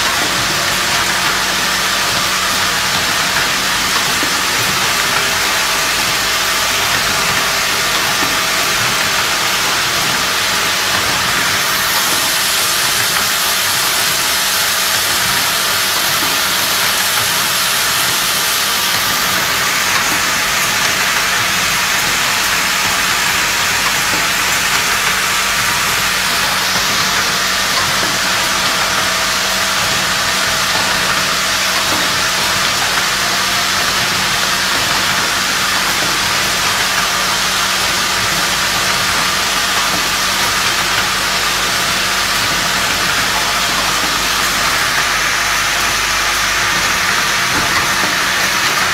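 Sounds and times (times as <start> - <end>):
machine hissing and rattling: 0.0 - 48.9.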